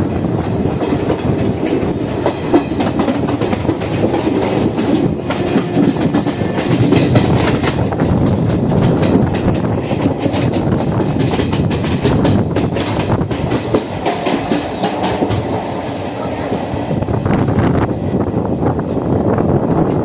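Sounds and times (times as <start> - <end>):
wheels clacking over rail joints: 0.0 - 17.3
train rumble: 0.0 - 20.0.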